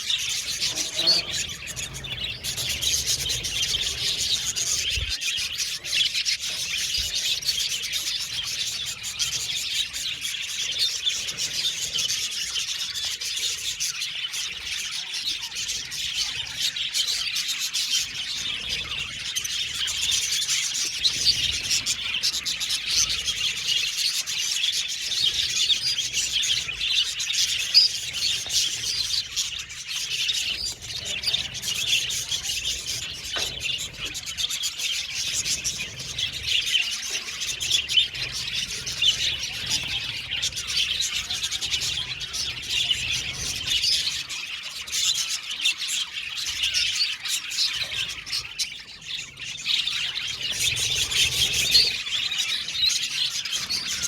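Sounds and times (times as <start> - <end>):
budgies chattering and chirping: 0.0 - 54.0.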